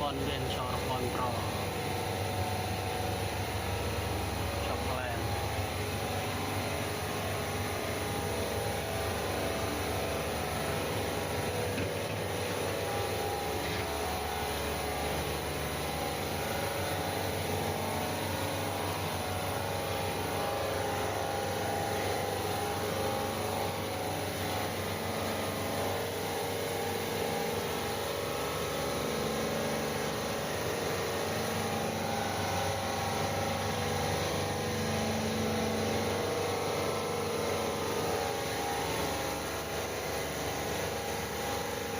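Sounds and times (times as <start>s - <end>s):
compressor humming: 0.0s - 41.9s
condenser fan whoosh: 0.0s - 41.9s.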